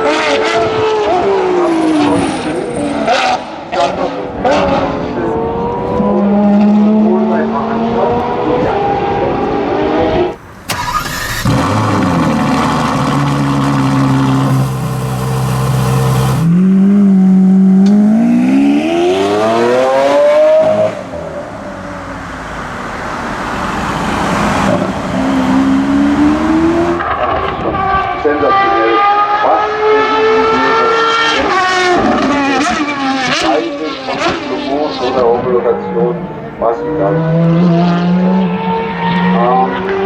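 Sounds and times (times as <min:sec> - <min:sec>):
supercar engine revving: 0:00.0 - 0:40.0.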